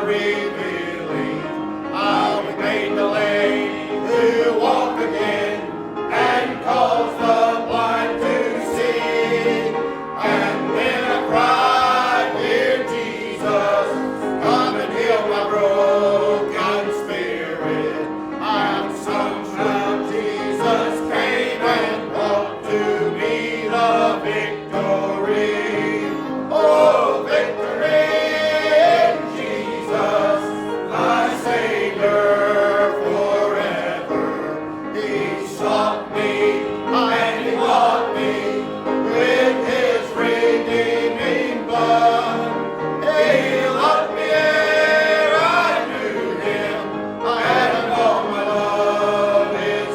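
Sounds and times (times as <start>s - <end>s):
congregation singing a hymn: 0.0s - 49.9s.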